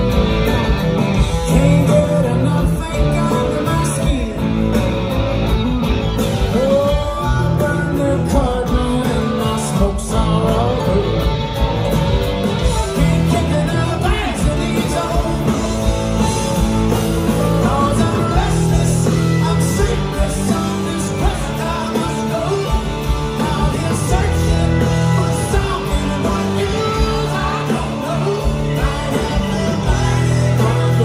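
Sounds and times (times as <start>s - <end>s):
drums: 0.0s - 31.0s
electric guitars: 0.0s - 31.0s
keyboard: 0.0s - 31.0s.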